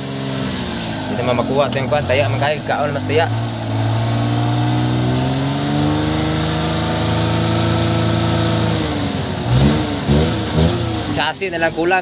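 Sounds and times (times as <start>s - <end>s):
engine running steadily: 0.0s - 12.0s
engine throttle blips: 0.0s - 12.0s.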